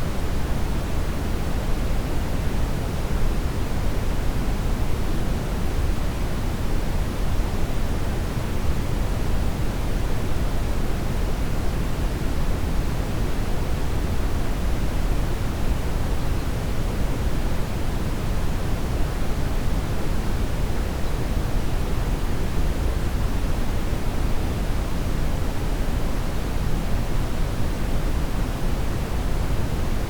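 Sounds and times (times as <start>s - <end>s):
brown noise hiss: 0.0s - 30.0s.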